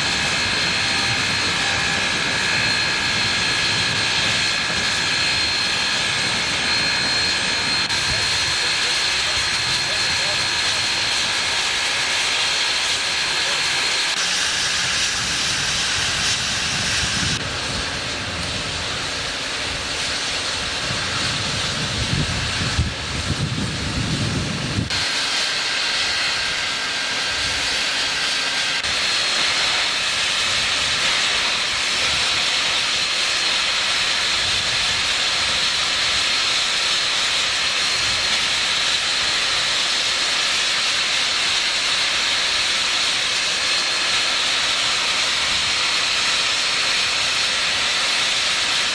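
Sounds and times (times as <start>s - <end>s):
steam hissing: 0.0s - 48.9s.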